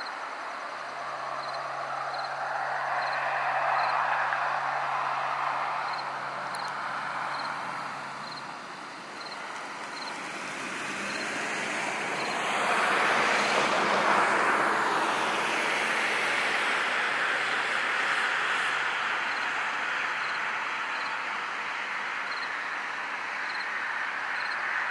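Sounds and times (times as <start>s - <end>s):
crickets chirping: 0.0s - 13.6s, 18.1s - 24.9s
car passing on road: 0.0s - 24.9s.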